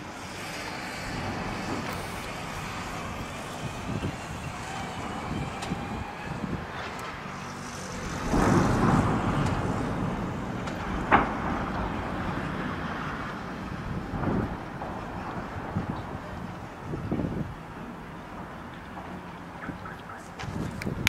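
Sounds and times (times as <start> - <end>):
sharp crack: 0.0 - 18.0
distant explosions: 0.0 - 18.8
outdoor background rumble: 0.0 - 21.0
rolling rumble: 0.0 - 21.0.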